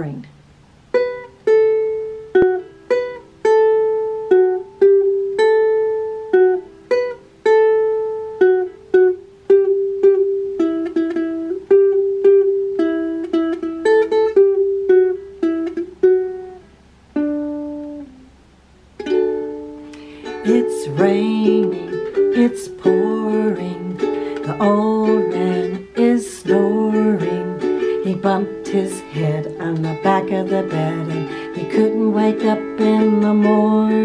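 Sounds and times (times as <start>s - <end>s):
ukulele picked melody: 0.0s - 34.0s.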